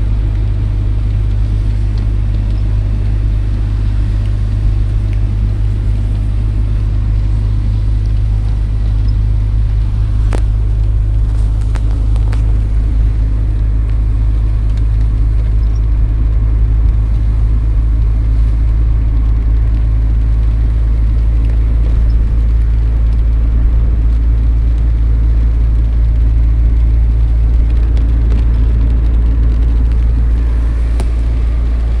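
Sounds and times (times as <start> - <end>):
car low rumble: 0.0 - 32.0.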